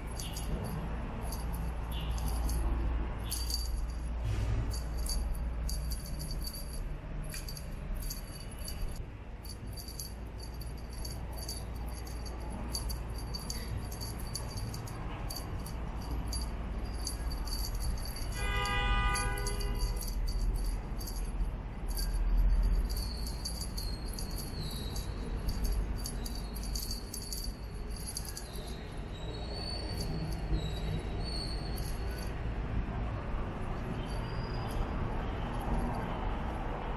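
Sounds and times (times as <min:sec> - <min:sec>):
cat toy bell jingling: 0:00.0 - 0:36.9.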